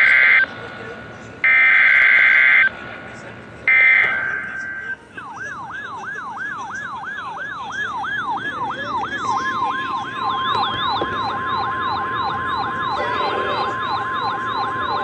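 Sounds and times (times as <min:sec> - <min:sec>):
electronic siren sweeping up and down: 0:01.4 - 0:02.7, 0:03.7 - 0:15.0
steady high alarm tone: 0:01.4 - 0:02.7, 0:03.7 - 0:15.0.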